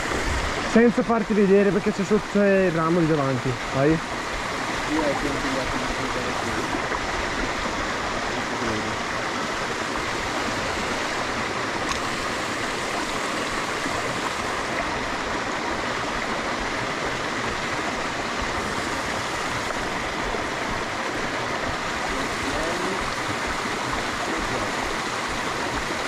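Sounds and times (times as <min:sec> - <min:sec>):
stream splashing over rocks: 0:00.0 - 0:26.0.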